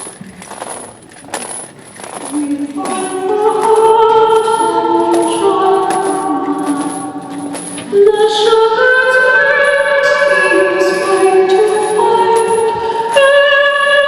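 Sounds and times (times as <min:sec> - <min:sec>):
scattered clicks: 0:00.0 - 0:12.9
background noise: 0:00.0 - 0:14.0
choir-like held notes: 0:02.3 - 0:14.0.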